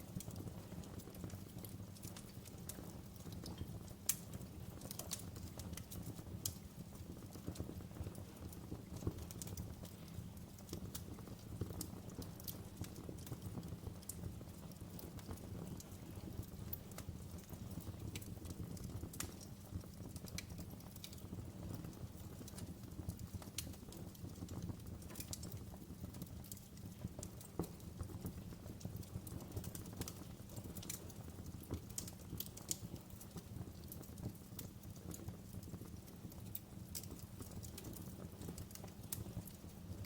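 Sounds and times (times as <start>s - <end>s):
low rumble of flames: 0.0s - 40.0s
burning wood popping and snapping: 0.1s - 39.8s.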